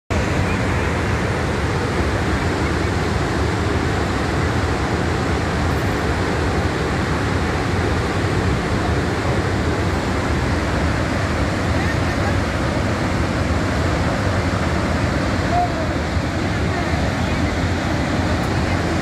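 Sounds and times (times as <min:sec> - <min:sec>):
water rushing through dam spillway: 0:00.1 - 0:19.0.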